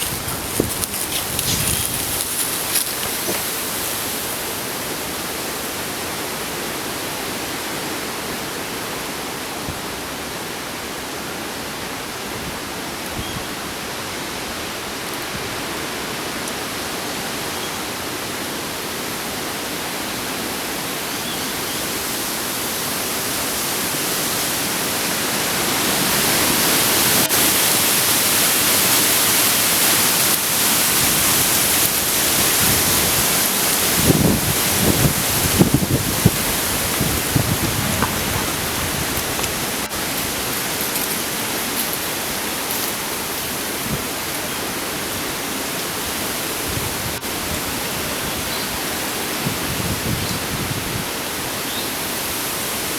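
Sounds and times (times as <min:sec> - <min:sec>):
wind through tree leaves: 0:00.0 - 0:52.9.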